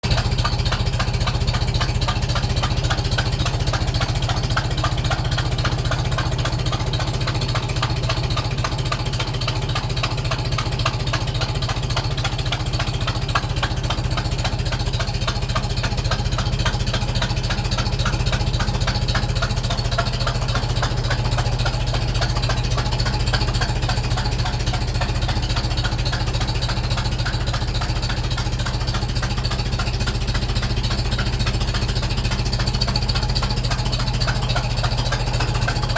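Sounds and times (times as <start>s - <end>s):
rapid knocking from exhaust: 0.0s - 35.9s
tractor engine idling: 0.0s - 35.9s.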